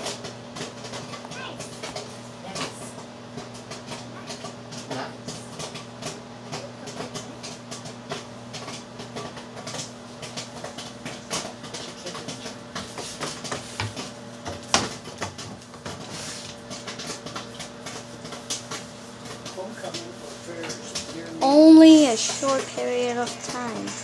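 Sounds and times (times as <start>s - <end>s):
dishwasher humming: 0.0s - 24.0s.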